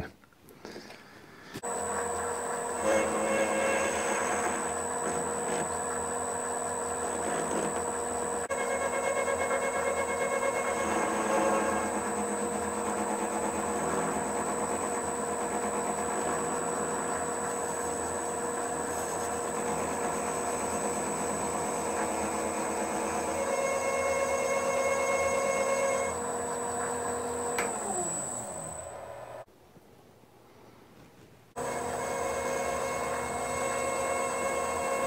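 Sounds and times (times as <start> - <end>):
metal lathe whining: 1.6 - 29.5, 31.6 - 35.0.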